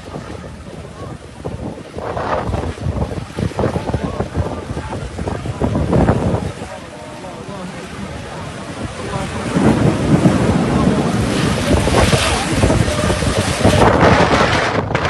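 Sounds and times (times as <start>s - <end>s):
thunder rumbling: 0.0s - 6.7s, 7.6s - 15.0s.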